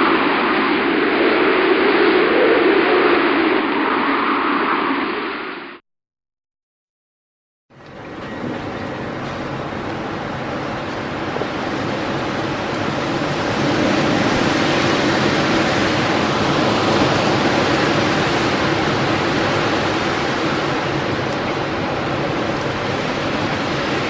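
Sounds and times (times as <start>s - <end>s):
strong wind rushing: 0.0s - 5.8s, 8.0s - 24.0s.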